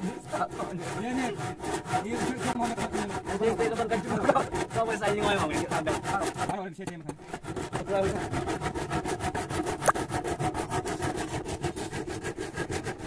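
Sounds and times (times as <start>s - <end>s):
handsaw cutting wood: 0.0s - 13.0s.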